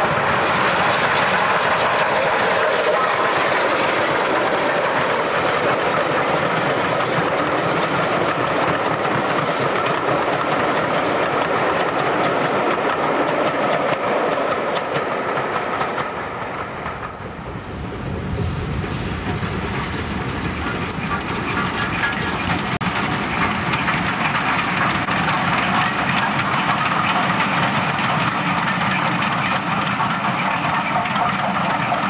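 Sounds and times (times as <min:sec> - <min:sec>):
steam locomotive passing: 0:00.0 - 0:32.0
train wheels clattering over rail joints: 0:00.0 - 0:32.0.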